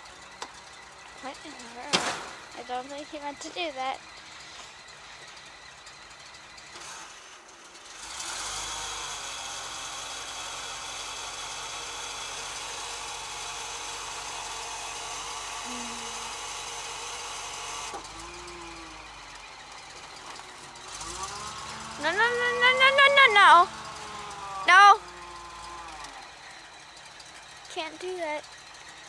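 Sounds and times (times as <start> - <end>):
engine whine: 0.0 - 29.0
truck engine running: 0.0 - 29.0.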